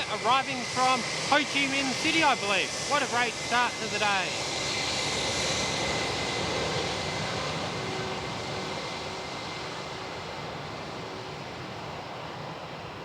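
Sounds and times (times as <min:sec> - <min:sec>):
jet airliner engine noise: 0:00.0 - 0:13.0.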